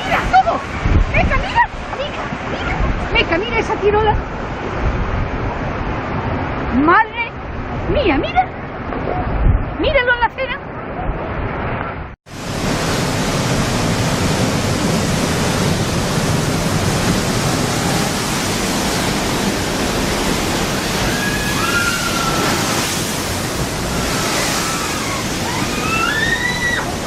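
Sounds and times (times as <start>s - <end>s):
storm surf rushing: 0.0s - 27.0s.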